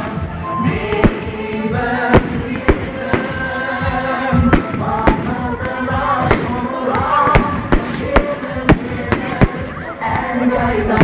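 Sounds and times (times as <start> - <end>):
music with singing: 0.0 - 11.0.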